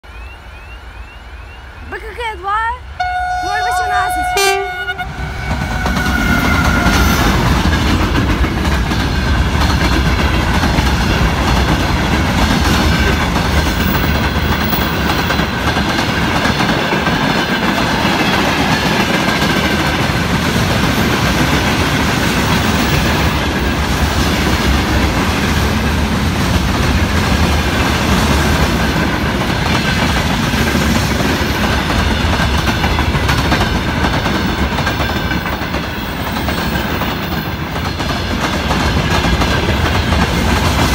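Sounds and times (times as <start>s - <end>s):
freight train wheels rumbling: 0.1s - 40.9s.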